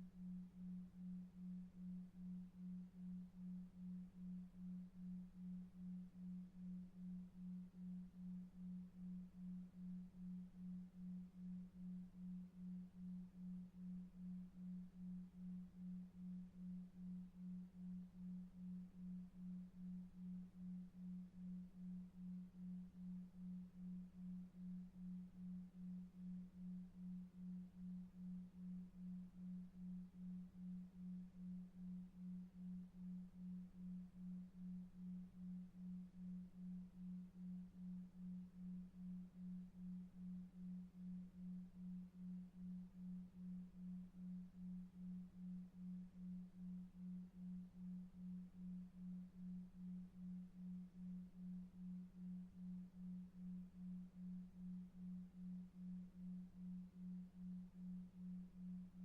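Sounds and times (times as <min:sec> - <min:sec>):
low pulsing pure tone: 0:00.0 - 0:59.0.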